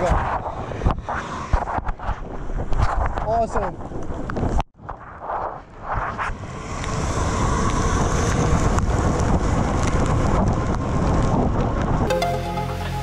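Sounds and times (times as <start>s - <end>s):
wind noise on microphone: 0.0s - 12.1s.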